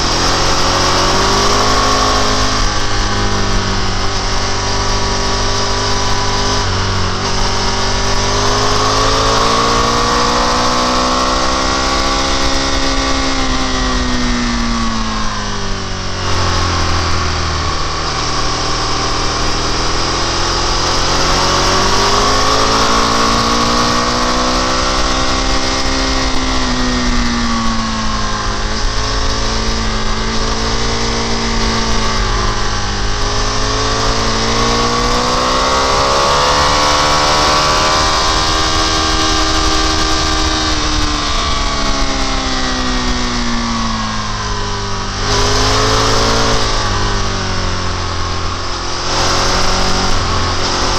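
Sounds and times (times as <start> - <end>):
motorcycle engine revving: 0.0 - 50.9
steady rushing noise: 0.0 - 50.9.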